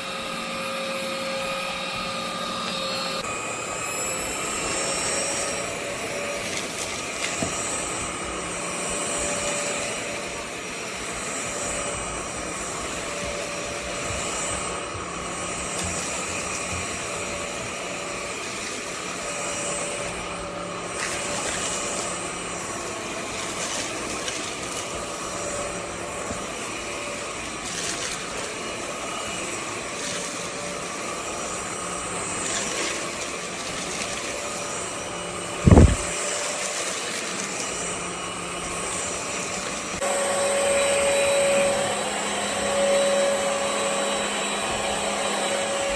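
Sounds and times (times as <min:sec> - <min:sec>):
stick vacuum motor whine: 0:00.0 - 0:45.9.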